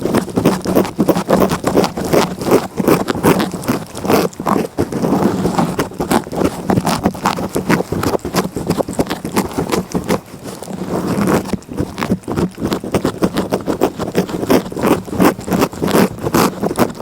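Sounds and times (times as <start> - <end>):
cat licking: 0.0 - 17.0.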